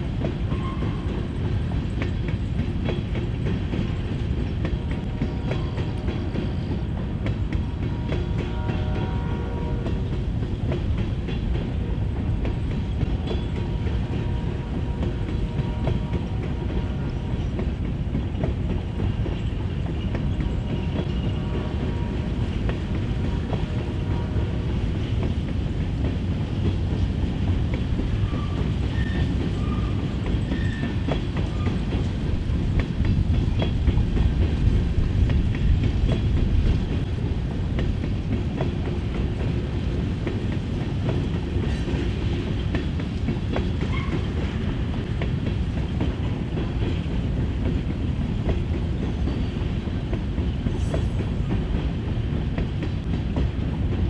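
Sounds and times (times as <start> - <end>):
train cars rumbling: 0.0 - 54.0
wheels clacking over rail joints: 0.0 - 54.0.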